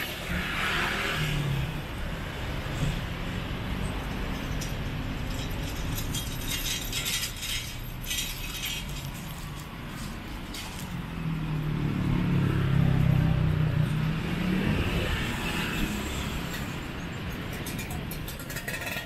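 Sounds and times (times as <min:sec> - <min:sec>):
cars and motorbikes passing: 0:00.0 - 0:06.4, 0:08.2 - 0:19.0.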